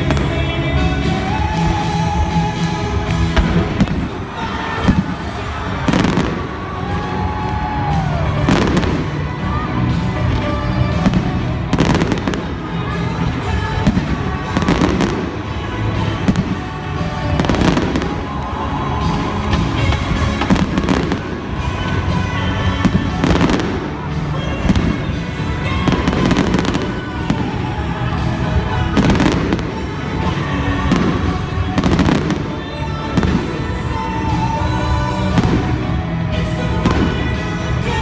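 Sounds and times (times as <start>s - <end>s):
fireworks bursting: 0.0s - 38.0s
music playing: 0.0s - 38.0s.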